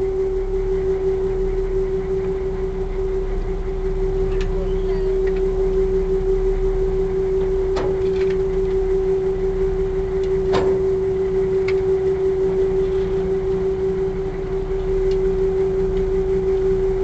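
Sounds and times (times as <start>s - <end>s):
ferry engine humming: 0.0s - 17.0s.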